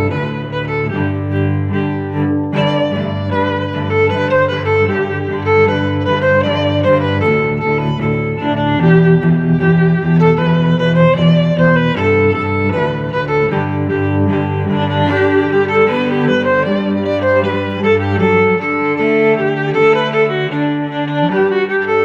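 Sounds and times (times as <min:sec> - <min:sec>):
violin and cello music: 0:00.0 - 0:22.0.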